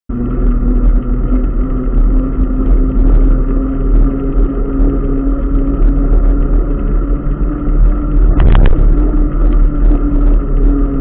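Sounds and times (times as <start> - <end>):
road rumble: 0.1 - 11.0
steady low hum: 0.1 - 11.0
wind on microphone: 0.1 - 11.0.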